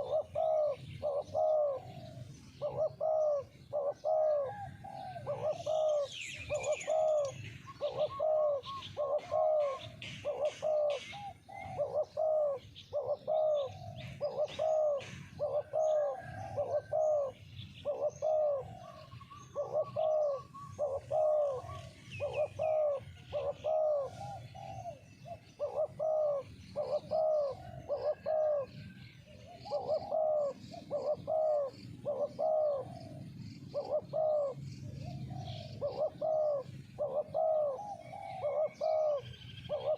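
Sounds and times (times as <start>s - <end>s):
doves cooing: 0.0s - 39.9s
small birds chirping faintly: 0.0s - 39.9s.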